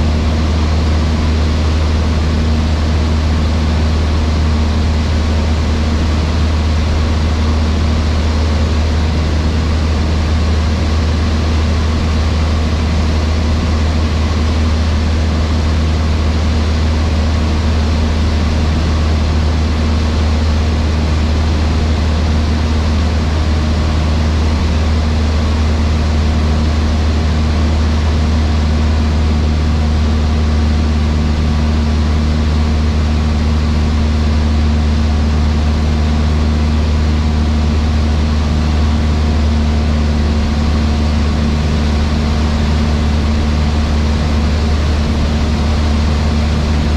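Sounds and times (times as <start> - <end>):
airplane engine and propeller drone: 0.0 - 46.9.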